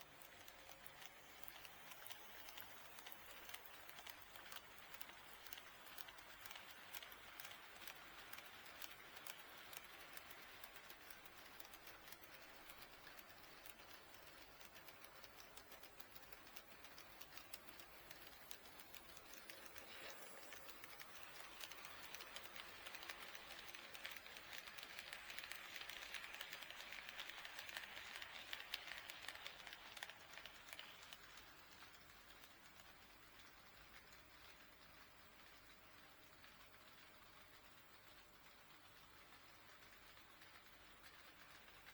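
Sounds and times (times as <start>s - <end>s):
model train wheels clicking: 0.0s - 41.9s.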